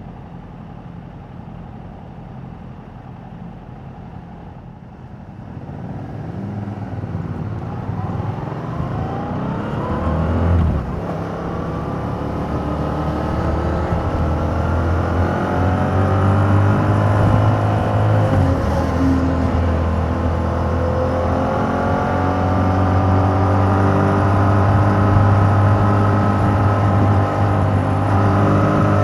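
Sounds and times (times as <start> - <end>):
motorcycle engine accelerating: 5.5 - 29.0.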